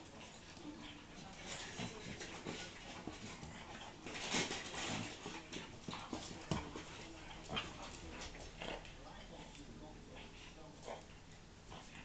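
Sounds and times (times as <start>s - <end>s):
dogs scuffling on floor: 0.0s - 11.0s.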